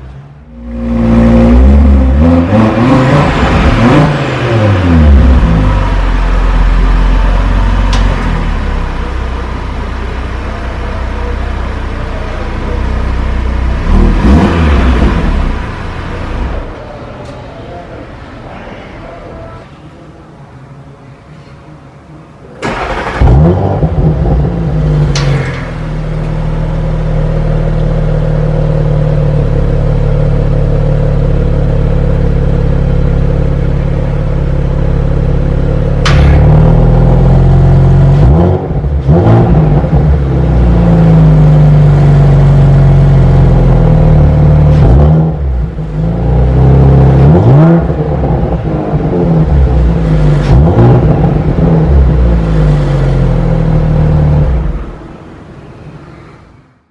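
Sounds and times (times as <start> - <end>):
car engine starting and revving: 0.0 - 10.5, 11.2 - 16.8, 22.6 - 55.3.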